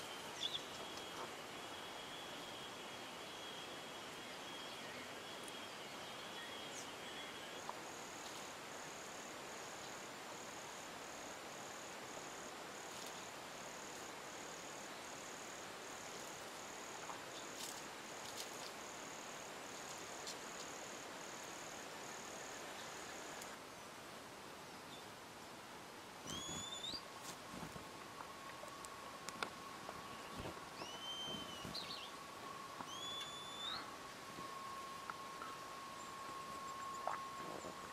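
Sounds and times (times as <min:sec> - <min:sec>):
low insect drone: 0:00.0 - 0:37.9
steady outdoor hiss: 0:00.0 - 0:37.9.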